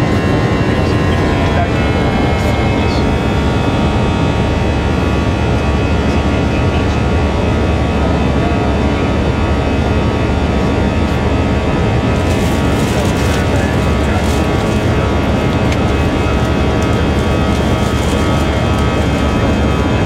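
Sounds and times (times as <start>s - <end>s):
jet engine whine: 0.0s - 20.0s
jet engines rumbling: 0.0s - 20.0s.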